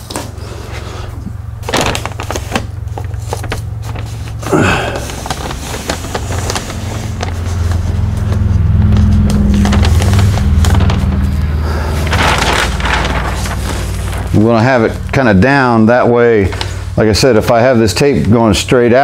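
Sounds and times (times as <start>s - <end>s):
paper rustling and crinkling: 0.0s - 15.2s, 16.4s - 16.9s
steady low hum: 0.0s - 19.0s.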